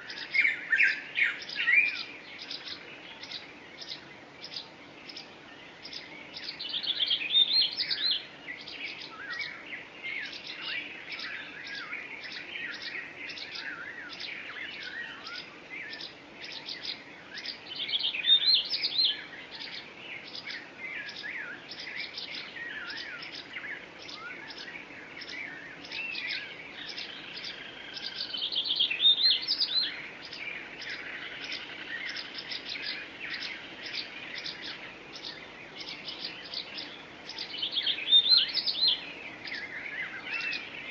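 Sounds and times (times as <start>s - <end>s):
songbirds warbling: 0.0s - 40.9s.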